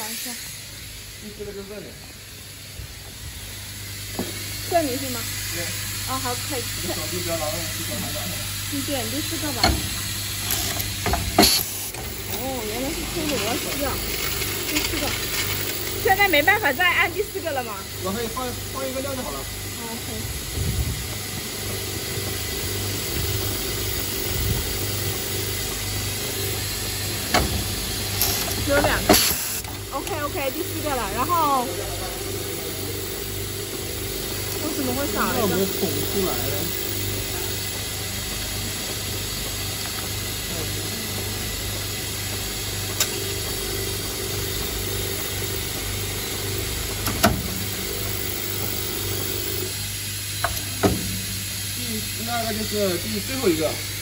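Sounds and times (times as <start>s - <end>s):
low buzz: 0.0s - 54.0s
machine hum and hiss: 0.0s - 54.0s.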